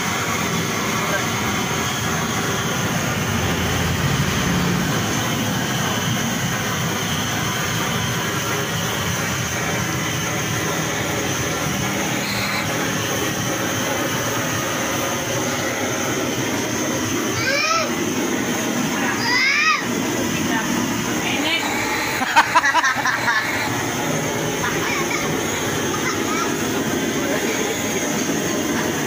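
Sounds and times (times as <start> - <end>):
gas blowtorch hissing: 0.0 - 29.0.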